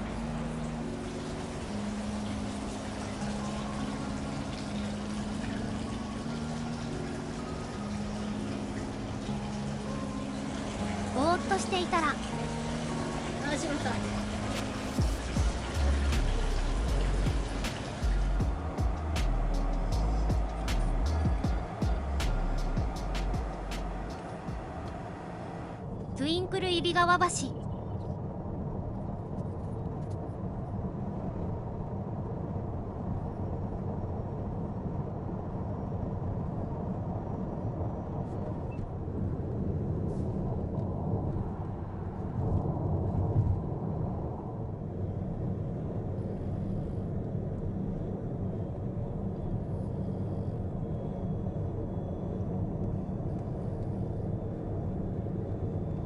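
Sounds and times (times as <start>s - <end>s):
road and tyre noise: 0.0s - 26.2s, 27.7s - 56.0s.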